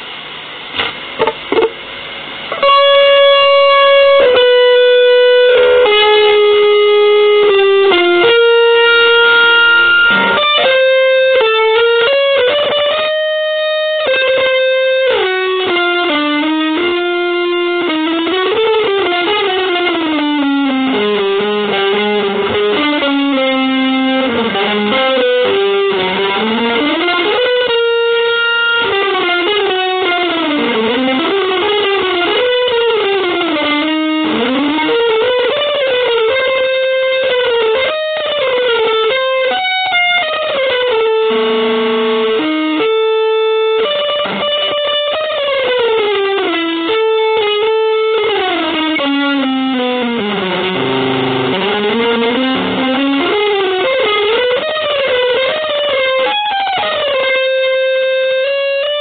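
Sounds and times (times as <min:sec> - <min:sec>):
distorted electric guitar melody: 0:00.0 - 0:59.0.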